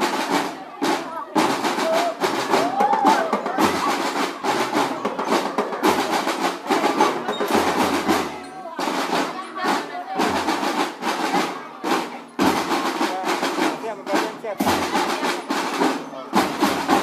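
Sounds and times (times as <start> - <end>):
snare drums rattling: 0.0 - 17.0.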